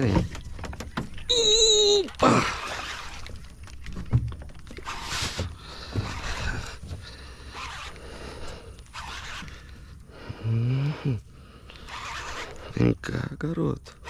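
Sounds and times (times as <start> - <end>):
rustling and scraping: 0.0 - 10.4, 11.7 - 13.0.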